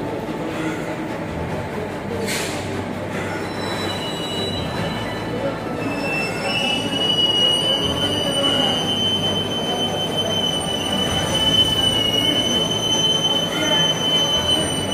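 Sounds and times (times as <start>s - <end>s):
train wheels squealing on rails: 2.2s - 14.9s.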